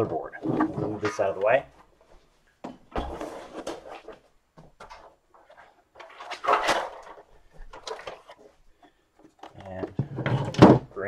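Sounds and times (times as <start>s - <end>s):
plastic parts scuffing and knocking: 0.0s - 11.0s.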